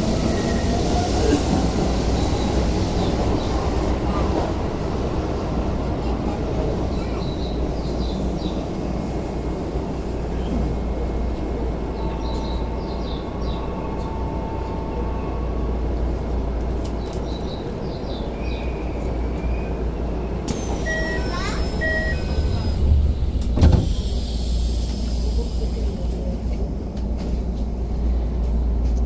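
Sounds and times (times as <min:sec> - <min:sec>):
train low hum: 0:00.0 - 0:29.0.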